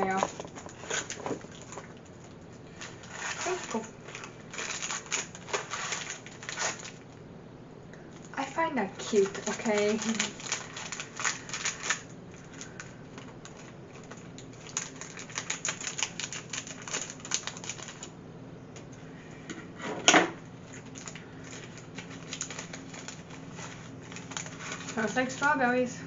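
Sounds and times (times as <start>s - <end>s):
snack wrapper crinkling: 0.1s - 7.2s, 9.0s - 18.2s, 20.6s - 25.5s.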